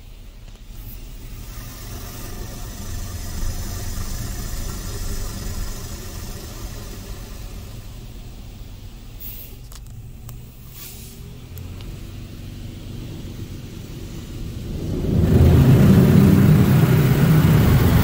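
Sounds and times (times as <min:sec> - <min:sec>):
car wash rumble and hiss: 0:00.0 - 0:18.0.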